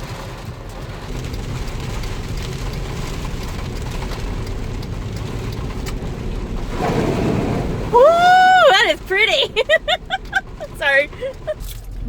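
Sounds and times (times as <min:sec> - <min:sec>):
car cabin road noise: 0:00.0 - 0:12.0
rain on a car: 0:00.0 - 0:12.0
raindrops ticking on roof: 0:00.0 - 0:12.0.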